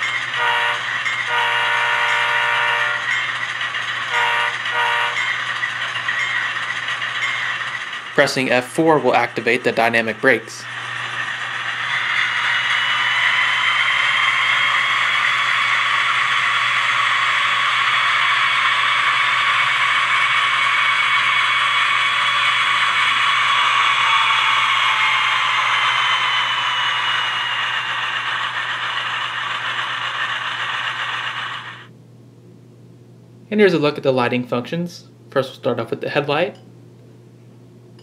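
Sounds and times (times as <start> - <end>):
brake blower whine: 0.0 - 31.9
diesel engine running: 0.0 - 31.9.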